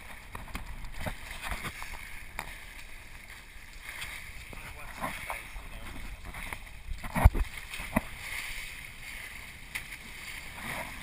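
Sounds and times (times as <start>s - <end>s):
water splashing along hull: 0.0s - 11.0s.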